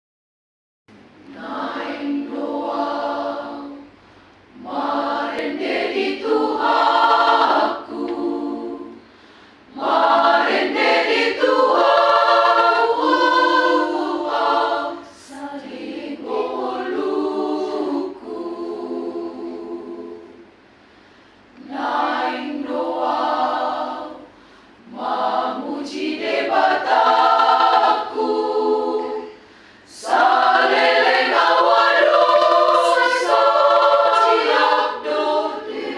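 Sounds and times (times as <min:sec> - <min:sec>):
choir singing: 0:01.2 - 0:09.1, 0:09.7 - 0:20.6, 0:21.6 - 0:35.9.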